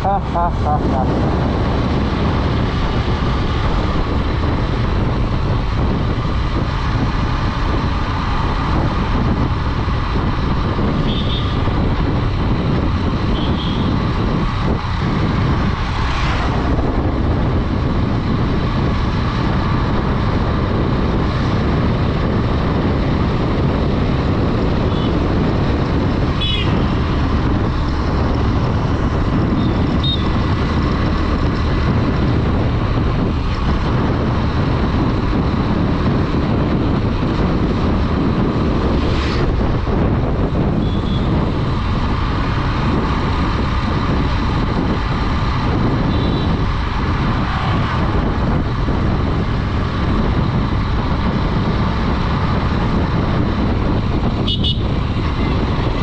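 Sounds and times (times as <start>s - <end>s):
motorcycle engine cruising: 0.0s - 56.0s
wind rush over microphone: 0.0s - 56.0s.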